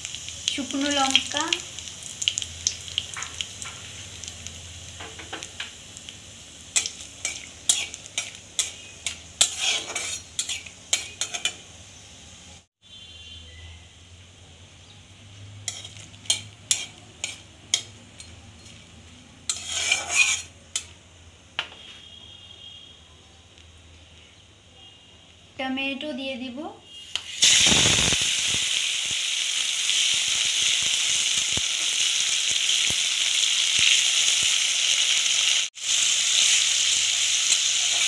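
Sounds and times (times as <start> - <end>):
spices sizzling in oil: 0.0 - 12.7, 14.0 - 21.0, 26.4 - 38.0.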